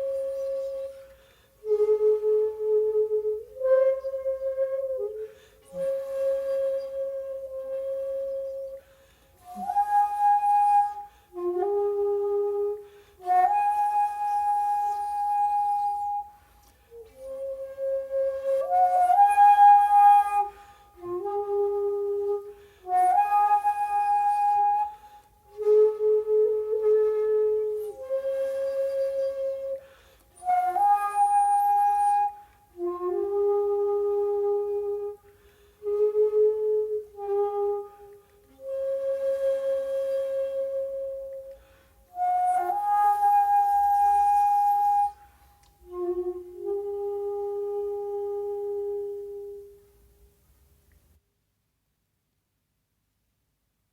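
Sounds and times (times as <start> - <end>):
shakuhachi flute long notes: 0.0 - 50.0.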